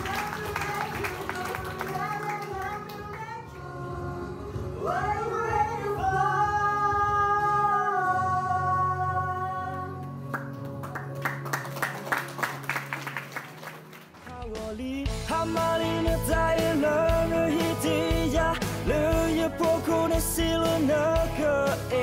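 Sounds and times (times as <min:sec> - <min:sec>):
low musical accompaniment: 0:00.0 - 0:22.0
man and woman singing duet: 0:00.1 - 0:10.3, 0:14.2 - 0:22.0.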